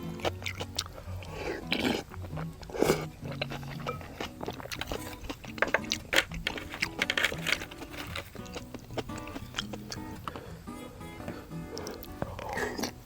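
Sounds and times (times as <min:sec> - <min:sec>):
noodle slurping: 0:00.0 - 0:10.6, 0:11.6 - 0:13.0
person chewing with mouth clicks: 0:00.0 - 0:10.6, 0:11.2 - 0:13.0.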